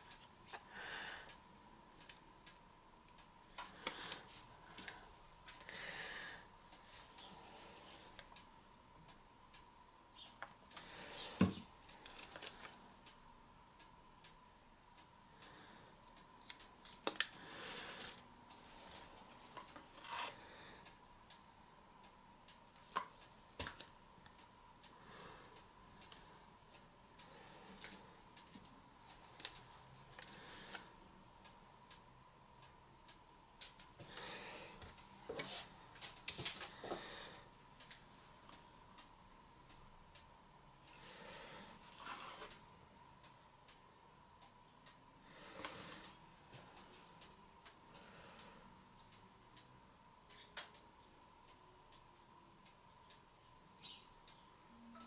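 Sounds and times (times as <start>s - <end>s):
small clicks and light taps: 0.0s - 6.1s, 13.8s - 25.0s, 25.6s - 54.4s
faint steady hum: 0.0s - 55.0s.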